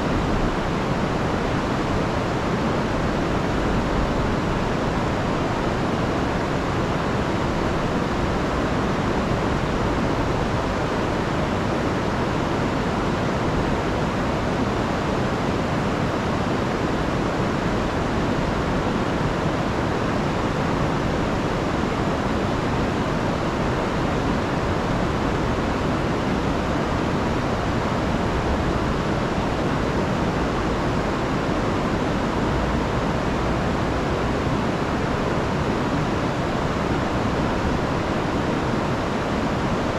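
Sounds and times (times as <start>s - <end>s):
river rushing over waterfalls: 0.0s - 39.9s.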